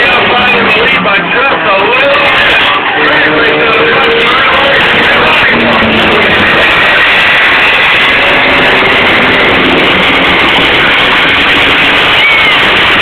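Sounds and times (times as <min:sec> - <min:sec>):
racing engines running loud: 0:00.0 - 0:13.0.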